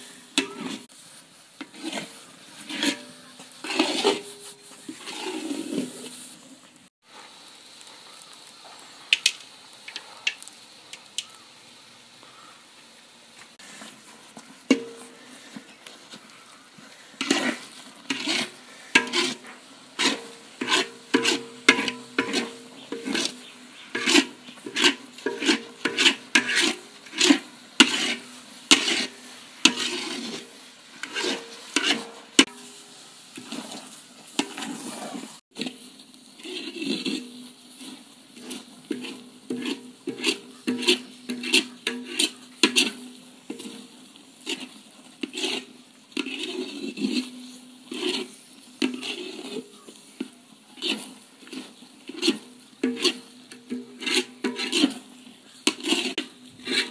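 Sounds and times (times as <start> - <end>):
metal spatula scraping pot: 0.0 - 1.0, 1.6 - 6.4, 13.6 - 56.9.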